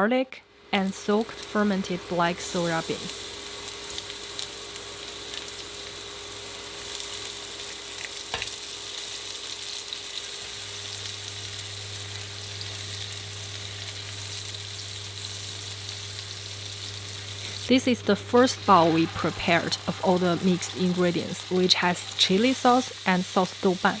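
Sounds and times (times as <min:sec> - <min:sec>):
low steady hum: 0:00.0 - 0:07.3, 0:11.0 - 0:24.0
food sizzling in hot oil: 0:00.8 - 0:24.0.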